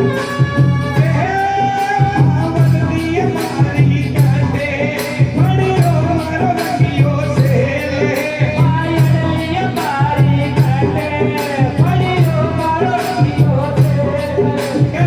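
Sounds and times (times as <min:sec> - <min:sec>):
devotional folk melody: 0:00.0 - 0:15.0
steady percussion beat: 0:00.0 - 0:15.0.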